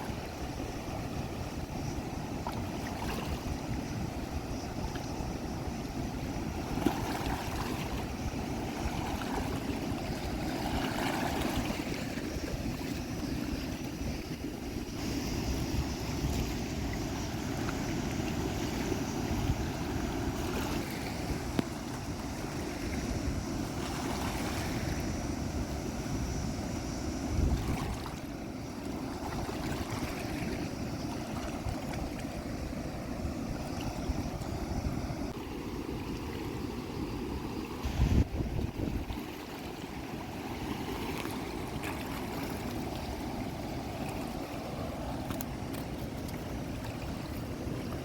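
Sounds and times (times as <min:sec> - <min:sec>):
stream water flowing: 0:00.0 - 0:48.0
wind rumbling on microphone: 0:00.0 - 0:48.0.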